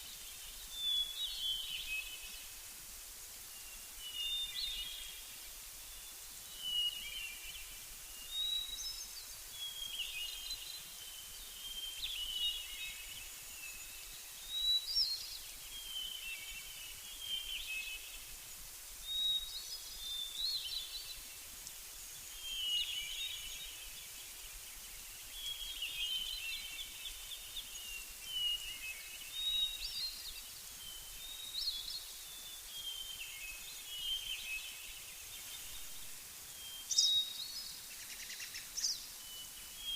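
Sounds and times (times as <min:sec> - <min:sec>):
faint hiss: 0:00.0 - 0:39.9
songbirds singing: 0:00.0 - 0:39.9.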